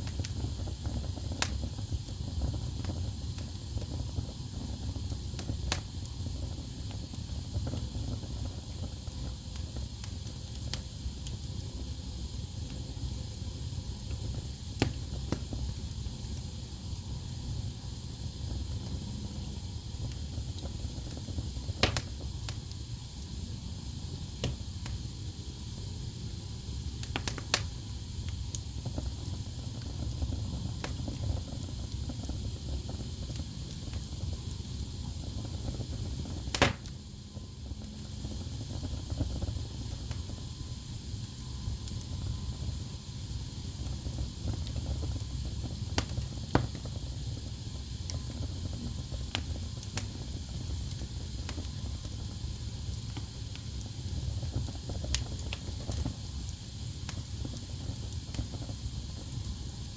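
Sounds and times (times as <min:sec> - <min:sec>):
fireplace fire crackling: 0:00.0 - 0:59.9
low rumble of burning logs: 0:00.0 - 0:59.9.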